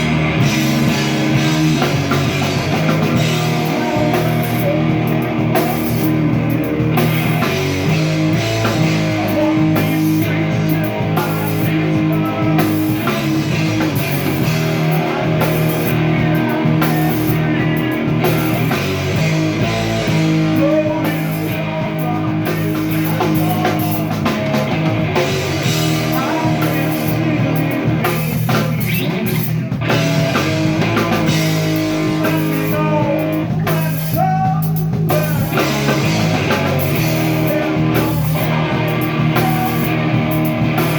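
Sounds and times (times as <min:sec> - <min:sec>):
drum kit: 0:00.0 - 0:40.9
electric guitar: 0:00.0 - 0:40.9
rock band playing live: 0:00.0 - 0:40.9.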